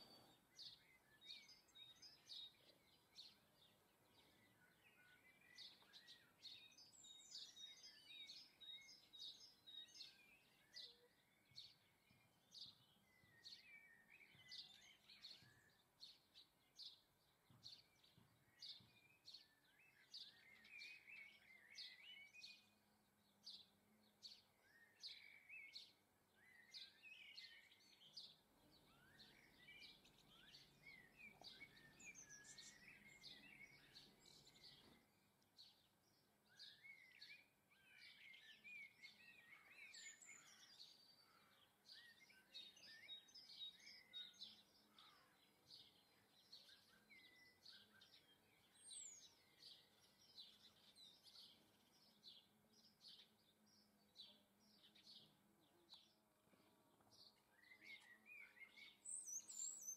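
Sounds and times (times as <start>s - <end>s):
faint birds chirping and twittering: 0.0s - 59.9s.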